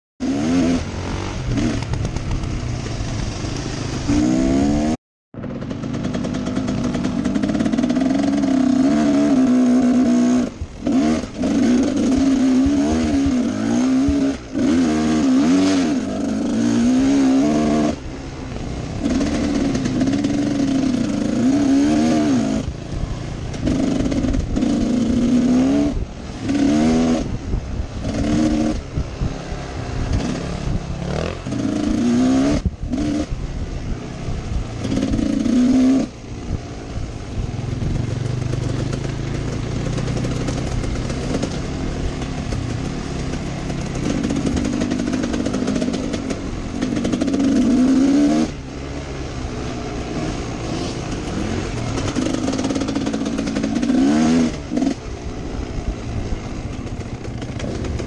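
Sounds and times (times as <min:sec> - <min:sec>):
motorcycle engine revving: 0:00.2 - 0:58.0.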